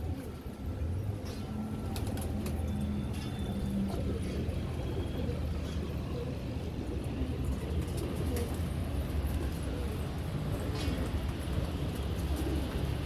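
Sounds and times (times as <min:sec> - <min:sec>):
low rumble of traffic: 0:00.0 - 0:13.0
pigeons cooing: 0:00.0 - 0:13.0.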